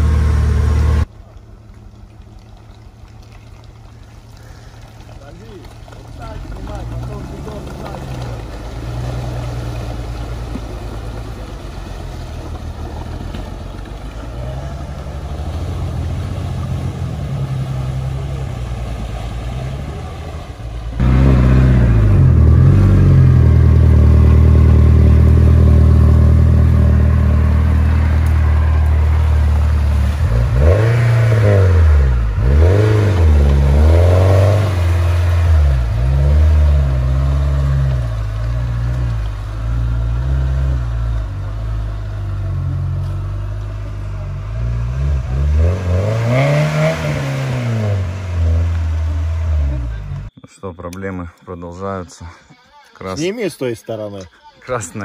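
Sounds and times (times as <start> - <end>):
off-road vehicle engine revving: 0.0 - 1.1, 4.4 - 50.3.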